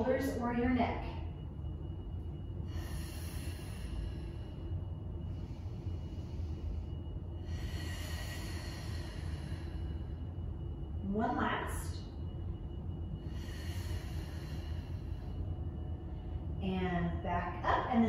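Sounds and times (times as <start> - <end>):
low hum: 0.0 - 18.0
woman breathing deeply: 1.3 - 16.6.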